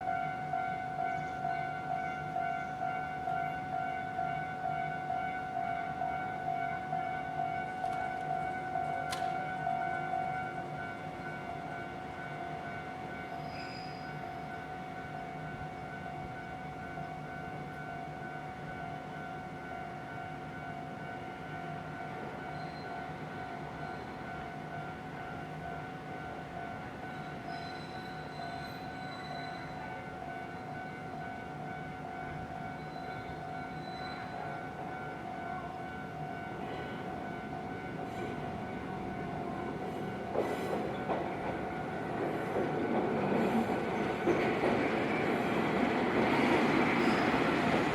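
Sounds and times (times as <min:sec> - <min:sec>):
approaching train: 0:00.0 - 0:47.9
level crossing warning bell: 0:00.0 - 0:47.9.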